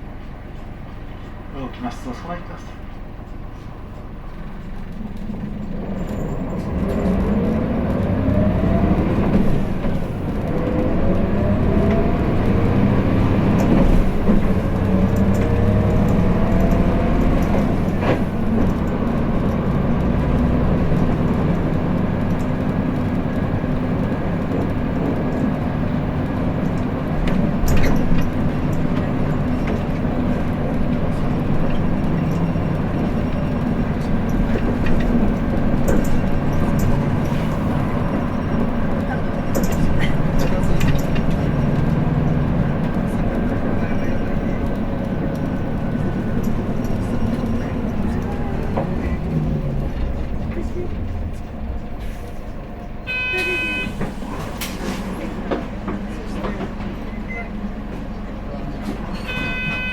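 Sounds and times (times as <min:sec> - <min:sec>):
bus engine accelerating: 0:00.0 - 0:59.9.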